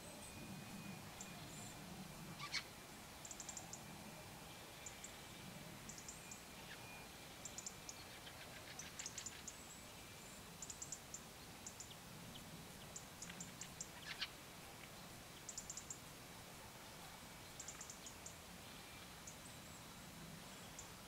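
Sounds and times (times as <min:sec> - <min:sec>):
small birds chirping: 0:00.2 - 0:03.9, 0:04.6 - 0:16.1, 0:16.9 - 0:21.0.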